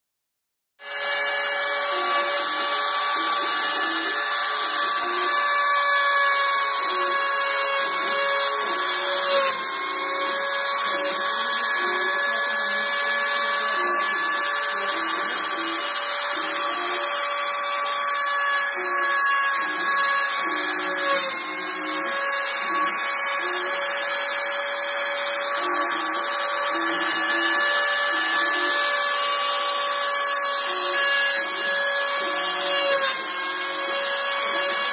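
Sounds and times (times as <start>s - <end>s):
router spindle high whine: 0.8s - 34.9s.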